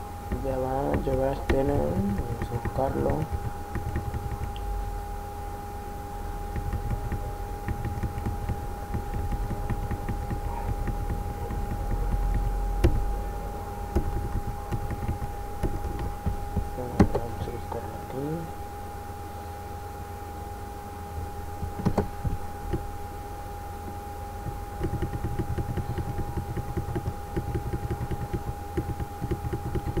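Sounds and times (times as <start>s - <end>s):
background hum: 0.0s - 30.0s
high whine: 0.0s - 30.0s.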